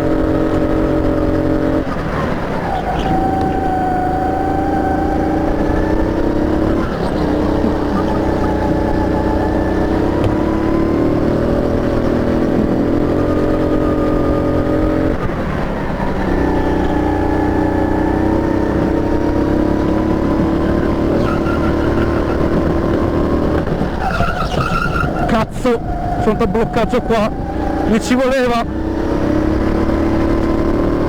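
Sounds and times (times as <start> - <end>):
go-kart engine under throttle: 0.0 - 31.0.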